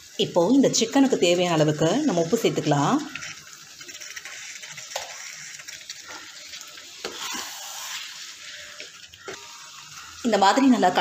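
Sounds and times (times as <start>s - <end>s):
gravy sizzling in a pan: 0.0s - 11.0s.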